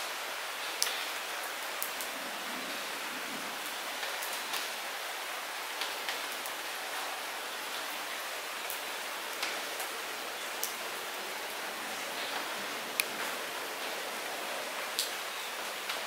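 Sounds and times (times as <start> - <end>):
light rain falling: 0.0 - 16.0
raindrops ticking on surfaces: 0.0 - 16.0.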